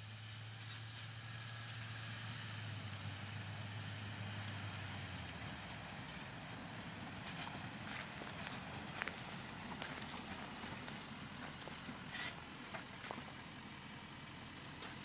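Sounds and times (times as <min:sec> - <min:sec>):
outdoor noise: 0:00.0 - 0:15.0
truck engine low hum: 0:00.0 - 0:15.0.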